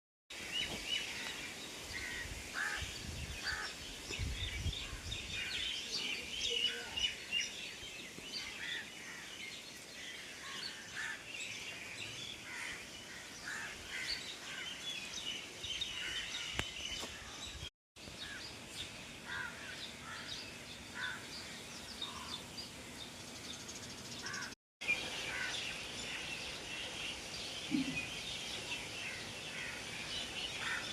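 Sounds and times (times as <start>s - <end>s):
outdoor background hiss: 0.3s - 30.9s
birds chirping in chorus: 0.4s - 30.9s.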